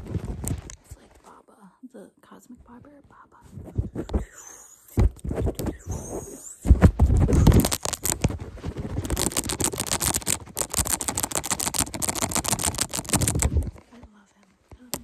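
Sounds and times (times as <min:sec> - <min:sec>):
fingers scratching on microphone: 0:00.0 - 0:01.0, 0:02.7 - 0:15.0.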